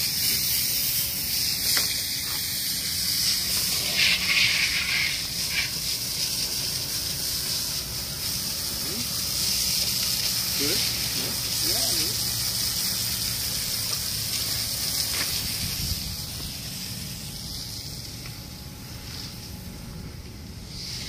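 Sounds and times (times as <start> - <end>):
hose spraying water on concrete: 0.0 - 21.0.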